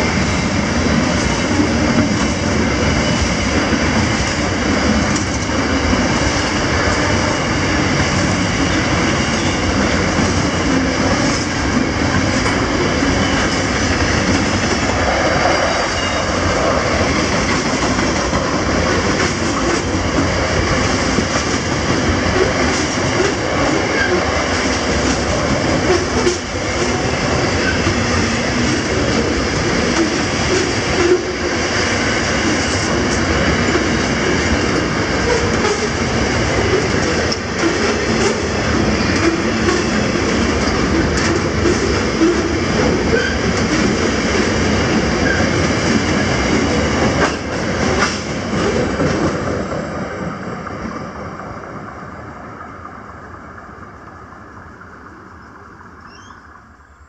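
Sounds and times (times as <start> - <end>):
steel wheels rumbling on rail: 0.0 - 57.0
wheels clacking over rail joints: 1.0 - 31.5, 32.3 - 49.6.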